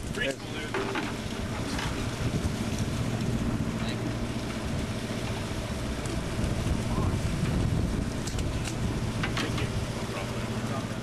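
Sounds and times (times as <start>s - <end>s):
boat diesel engine droning: 0.0s - 11.0s
wind buffeting microphone: 0.0s - 11.0s.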